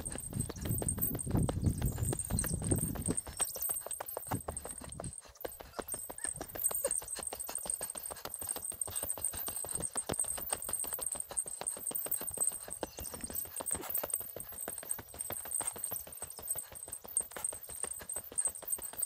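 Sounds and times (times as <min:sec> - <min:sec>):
crunching footsteps: 0:00.0 - 0:19.0.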